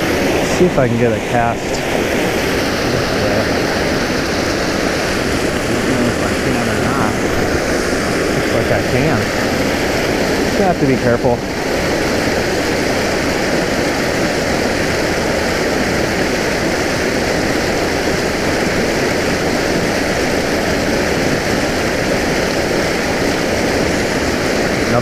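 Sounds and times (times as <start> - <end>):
water roaring out of a pipe: 0.0 - 25.0.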